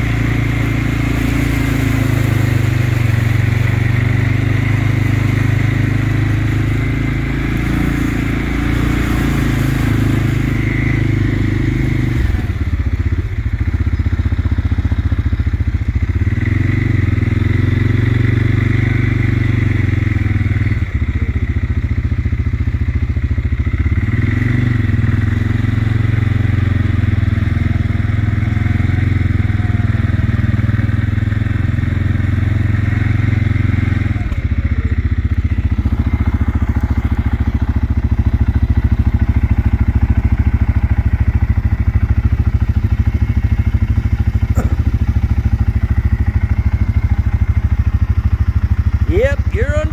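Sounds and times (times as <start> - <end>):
engine running loudly: 0.0 - 49.9.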